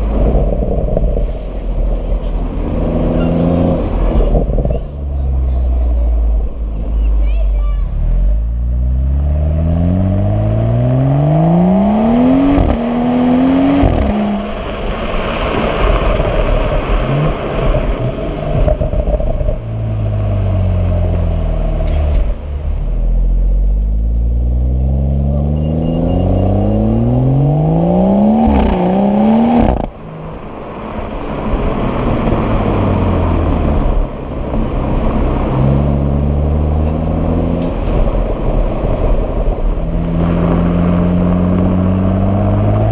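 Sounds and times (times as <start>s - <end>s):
car engine accelerating hard: 0.0s - 6.9s, 7.9s - 42.9s.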